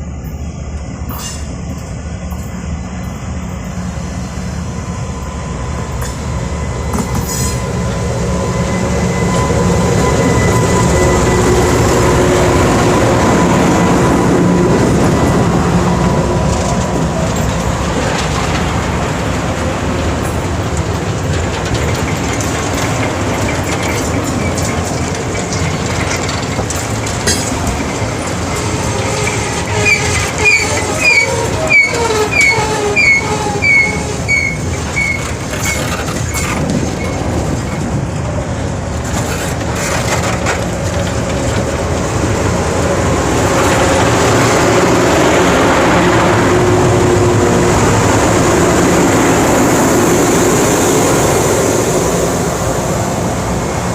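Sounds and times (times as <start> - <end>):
train rumbling on rails: 0.0 - 53.9.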